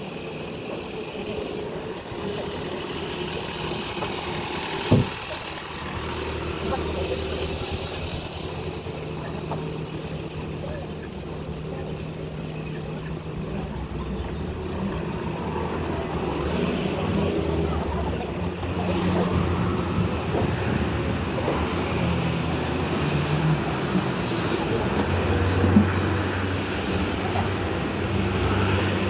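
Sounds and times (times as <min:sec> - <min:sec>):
cars passing: 0:00.0 - 0:29.0
low engine hum: 0:00.0 - 0:29.0
tyre and road noise: 0:00.0 - 0:29.0.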